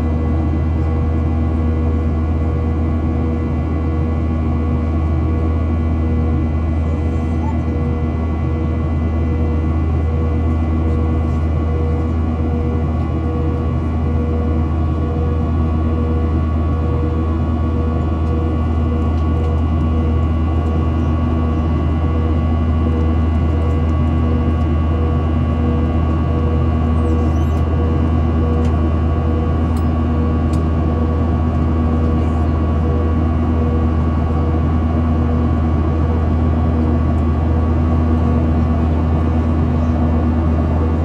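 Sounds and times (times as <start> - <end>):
jet engine drone in cabin: 0.0 - 41.0
steady whining tones: 5.2 - 41.0.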